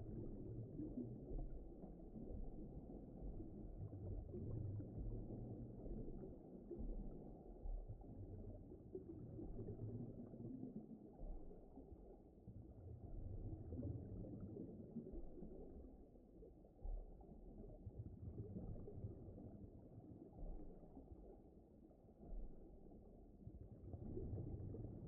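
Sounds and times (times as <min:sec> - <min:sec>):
muffled ocean rumble: 0:00.0 - 0:25.0.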